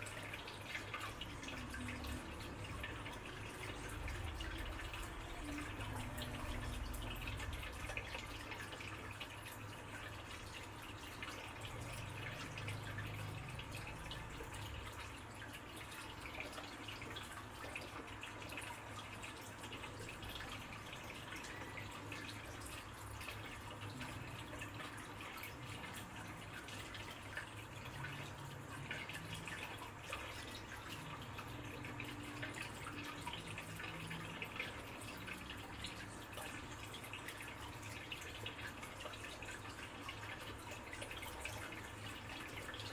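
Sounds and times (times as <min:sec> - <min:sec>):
water trickling and dripping: 0:00.0 - 0:42.9.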